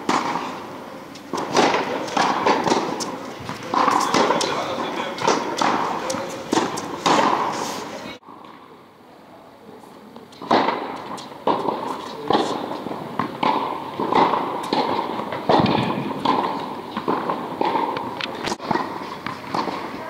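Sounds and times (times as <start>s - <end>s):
tennis ball bouncing on court: 0.0s - 7.6s, 10.3s - 19.9s
tennis ball struck by rackets: 0.0s - 7.6s, 10.4s - 19.9s.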